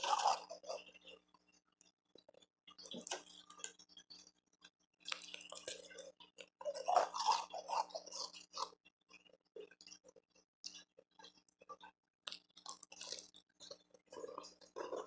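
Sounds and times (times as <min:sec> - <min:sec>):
crunching and chewing ice: 0:00.0 - 0:15.0.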